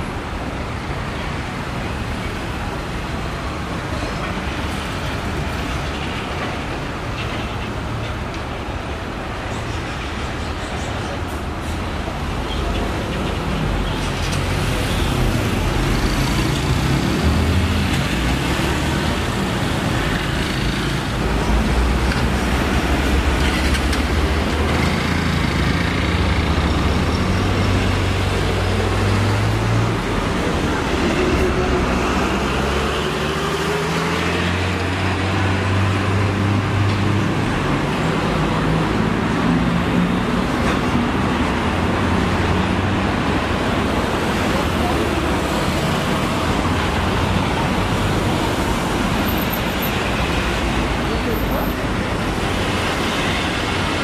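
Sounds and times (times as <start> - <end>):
car and bus engines: 0.0 - 54.0.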